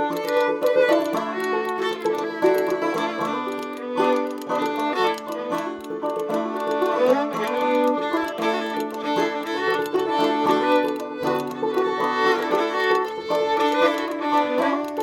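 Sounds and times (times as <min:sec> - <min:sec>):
fiddle melody: 0:00.0 - 0:15.0
picked banjo: 0:00.0 - 0:15.0
spoons clicking: 0:00.0 - 0:15.0.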